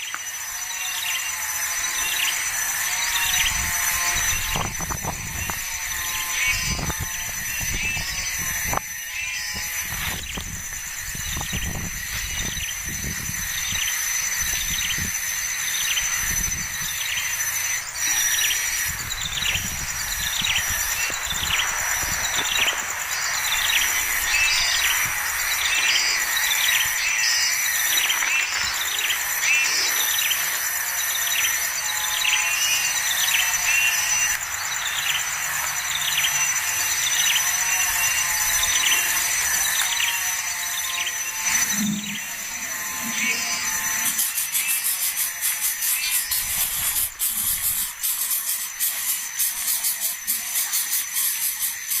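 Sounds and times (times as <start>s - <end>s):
bird chirping: 0.0s - 51.9s
high pulsing insect drone: 0.0s - 52.0s.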